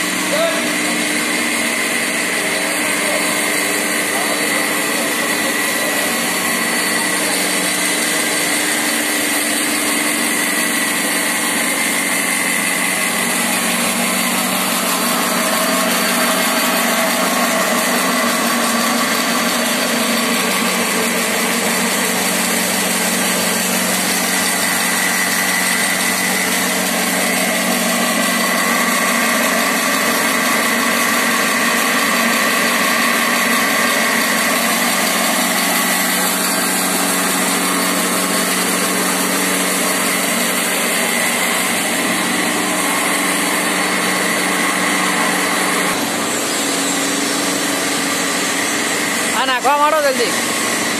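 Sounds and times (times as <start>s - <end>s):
machine drone with high whine: 0.0s - 50.9s.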